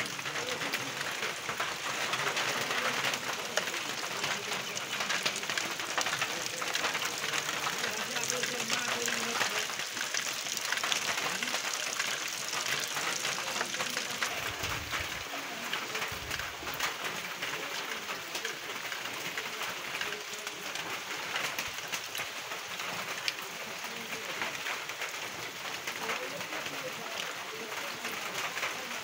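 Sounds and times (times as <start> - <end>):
rain on wet road: 0.0 - 29.0.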